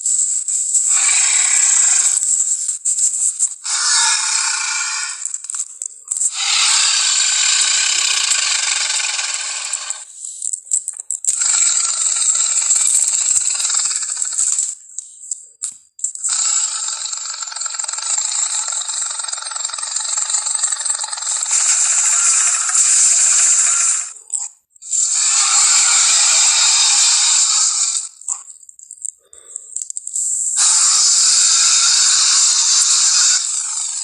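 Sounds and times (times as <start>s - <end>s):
monster rattling hiss: 0.0s - 10.4s, 11.3s - 14.8s, 16.2s - 24.2s, 24.8s - 28.5s, 30.1s - 34.0s.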